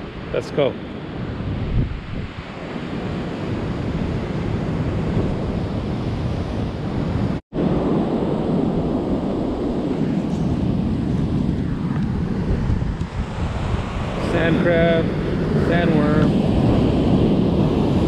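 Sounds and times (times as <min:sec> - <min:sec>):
wind buffeting microphone: 0:01.0 - 0:18.0.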